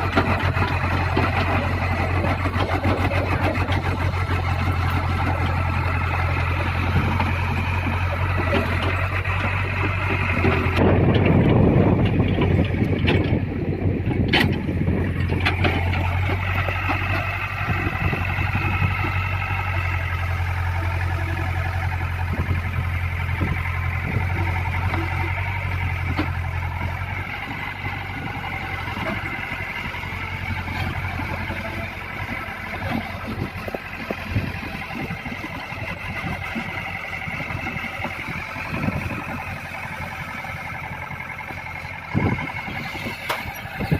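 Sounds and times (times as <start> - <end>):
excavator diesel engine droning: 0.0 - 43.9.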